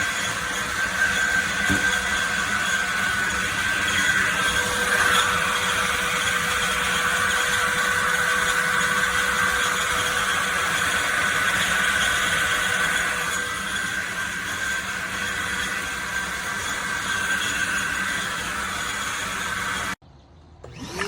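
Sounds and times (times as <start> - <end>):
shop vacuum running: 0.0 - 20.0, 20.6 - 21.0.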